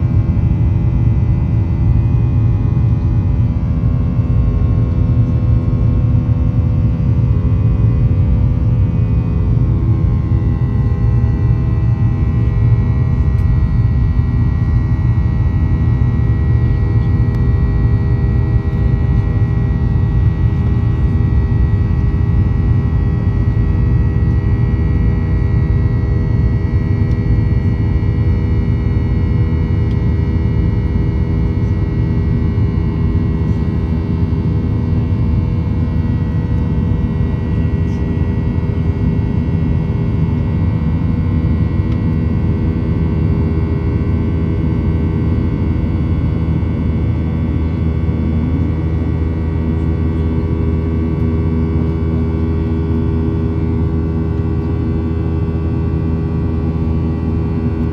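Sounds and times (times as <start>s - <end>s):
jet engine rumble in cabin: 0.0s - 57.9s
steady droning engine tones: 0.0s - 57.9s.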